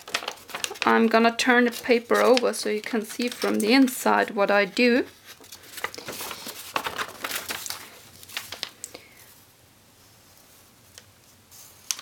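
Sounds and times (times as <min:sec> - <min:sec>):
paper crinkling and rustling: 0:00.0 - 0:09.3, 0:11.6 - 0:12.0.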